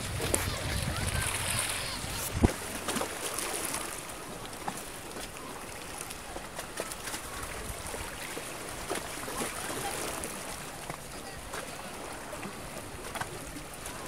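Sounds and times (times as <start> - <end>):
small waves lapping: 0.0 - 14.0.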